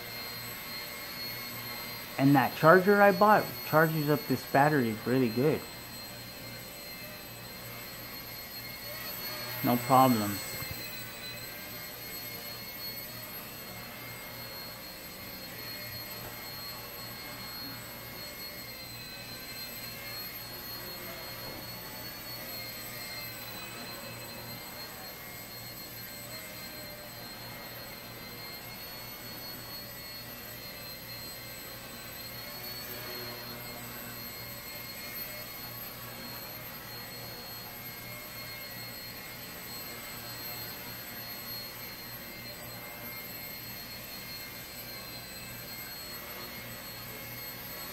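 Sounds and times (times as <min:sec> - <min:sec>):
toy helicopter whining: 0:00.0 - 0:47.9.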